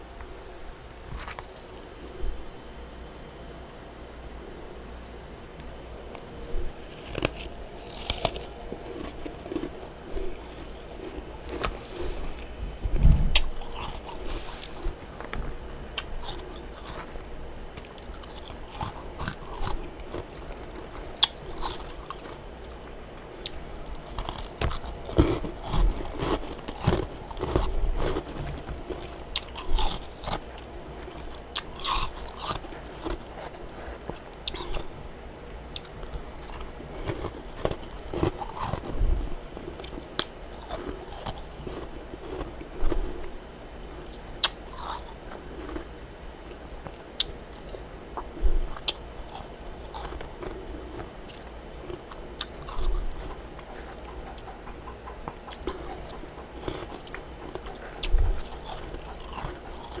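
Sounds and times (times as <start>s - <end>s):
person chewing crunchy frost: 1.1s - 2.6s, 5.6s - 60.0s.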